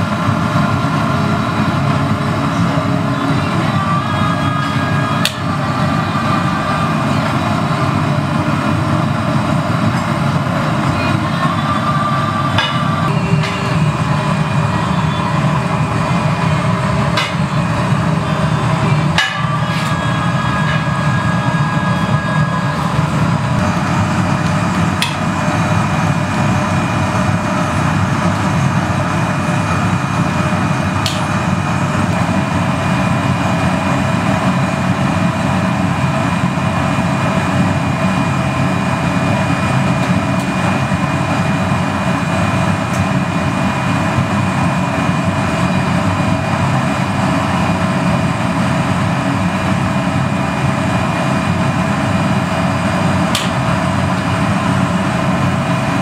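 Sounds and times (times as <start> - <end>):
gas burners and blowers roaring: 0.0 - 56.0.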